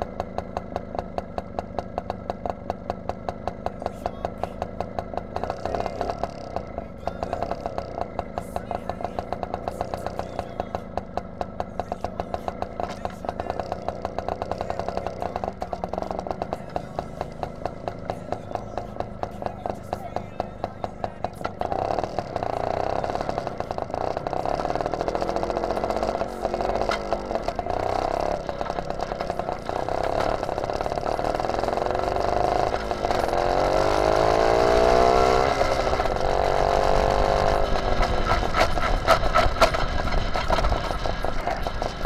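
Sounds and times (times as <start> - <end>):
go-kart engine running: 0.0 - 42.0.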